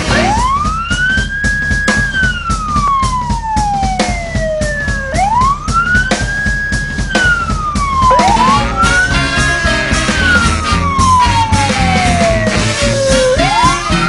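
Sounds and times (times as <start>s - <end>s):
emergency vehicle siren wailing: 0.0s - 14.0s
music with a beat: 0.0s - 14.0s.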